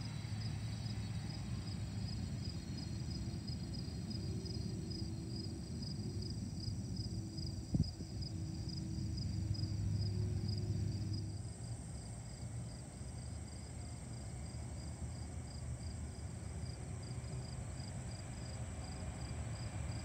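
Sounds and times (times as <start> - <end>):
crickets chirping: 0.0 - 20.0
distant jet engines at takeoff: 0.0 - 20.0.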